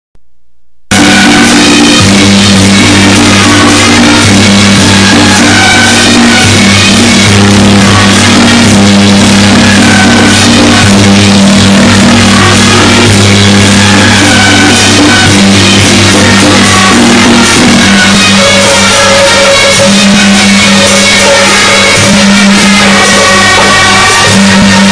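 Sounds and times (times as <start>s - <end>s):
loud music with drums: 0.9s - 24.9s.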